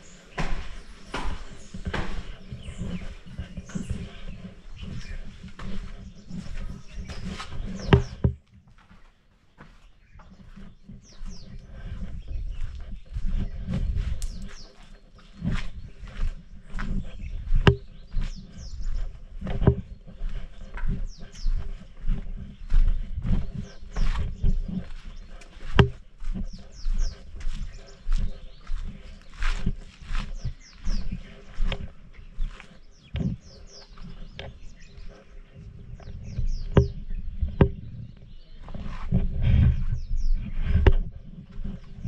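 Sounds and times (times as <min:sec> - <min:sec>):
footsteps on stone: 0:00.0 - 0:42.0
small birds chirping: 0:00.0 - 0:42.0
wind rumbling on microphone: 0:00.0 - 0:42.0.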